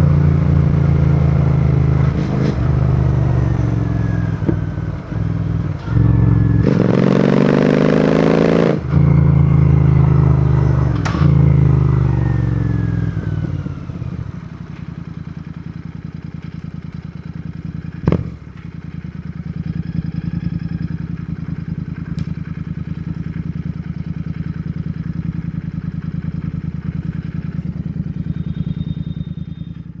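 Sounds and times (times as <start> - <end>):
motorcycle engine idling: 0.0 - 6.7, 8.9 - 30.0
motorcycle engine revving: 0.0 - 30.0.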